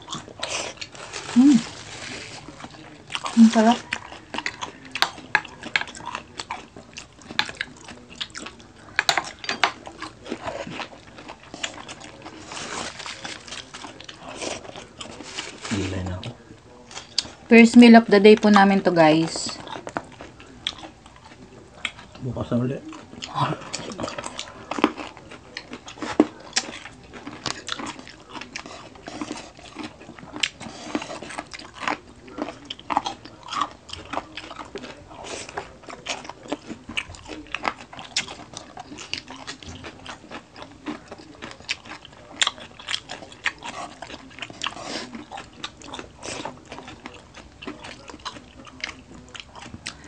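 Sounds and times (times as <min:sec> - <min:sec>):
chewing and lip smacking: 0:00.0 - 0:17.5, 0:19.4 - 0:50.0.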